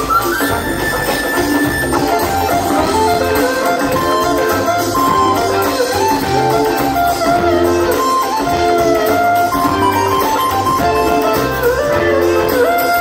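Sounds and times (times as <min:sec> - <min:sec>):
live band playing instrumental jam: 0:00.0 - 0:13.0
sliding lead notes: 0:00.0 - 0:13.0
steady bass: 0:00.1 - 0:12.7.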